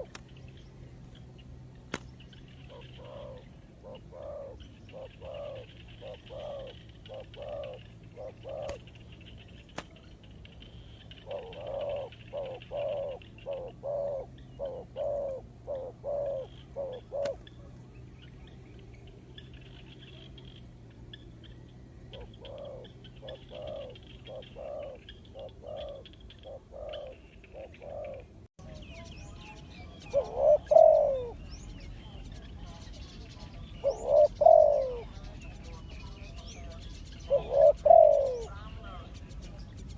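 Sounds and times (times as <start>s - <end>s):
doves cooing: 0.0s - 28.5s, 29.6s - 39.9s
small birds chirping: 0.0s - 39.9s.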